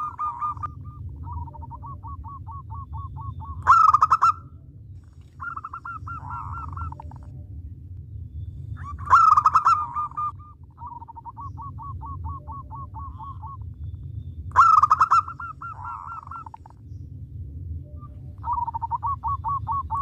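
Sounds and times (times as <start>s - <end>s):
dove cooing: 0.0s - 7.4s, 8.8s - 13.7s, 14.5s - 16.8s, 17.9s - 20.0s.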